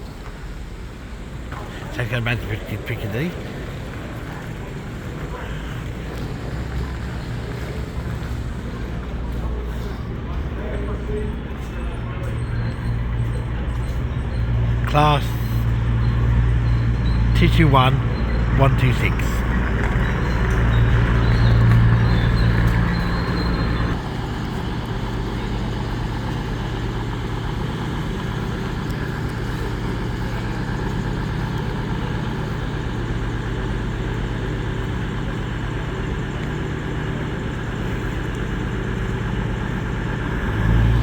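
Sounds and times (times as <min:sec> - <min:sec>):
diesel engines humming: 0:00.0 - 0:41.0.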